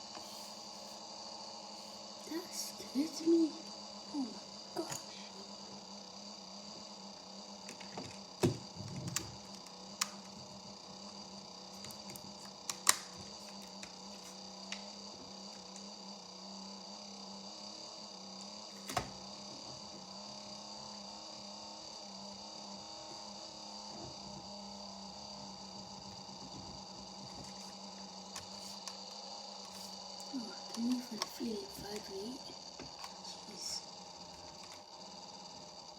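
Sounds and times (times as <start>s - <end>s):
computer high whine: 0.0s - 35.9s
computer low hum: 0.0s - 35.9s.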